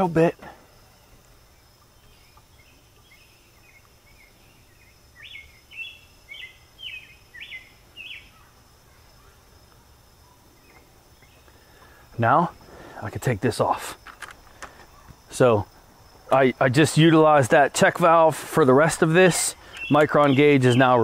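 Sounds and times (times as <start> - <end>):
low background noise: 0.0 - 21.0
bird chirping: 0.7 - 21.0.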